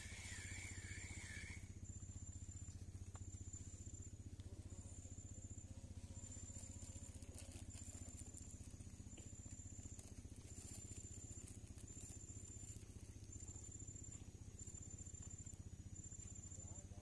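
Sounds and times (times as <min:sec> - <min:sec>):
insect trilling: 0:00.0 - 0:17.0
steady low hum: 0:00.0 - 0:17.0.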